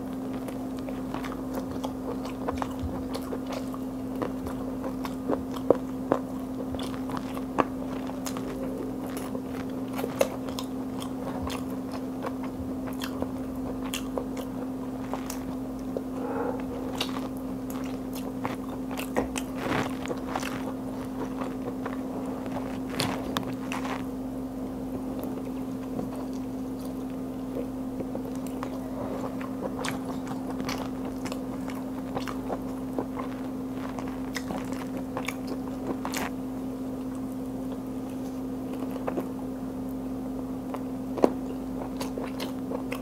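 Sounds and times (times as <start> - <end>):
person chewing fried chicken: 0.0 - 43.0
steady low hum: 0.0 - 43.0.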